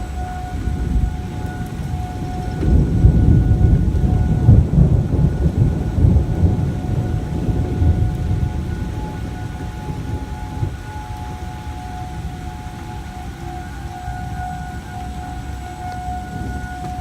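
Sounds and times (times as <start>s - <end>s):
faint warning siren: 0.0s - 17.0s
rolling thunder: 0.0s - 17.0s.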